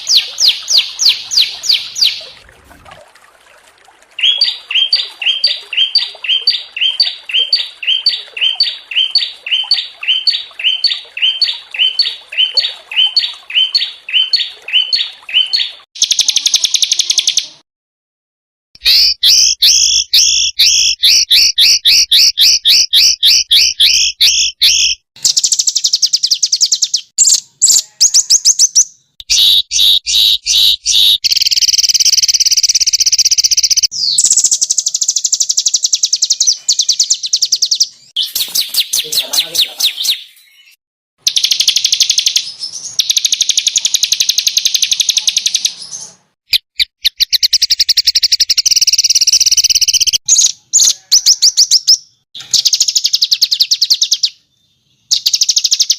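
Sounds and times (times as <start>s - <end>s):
harsh rapid bird trills: 0.0s - 2.3s, 4.2s - 17.6s, 18.8s - 45.9s, 46.5s - 54.4s, 55.1s - 55.9s
songbirds chirping: 0.0s - 2.5s, 3.3s - 17.6s, 18.8s - 55.9s.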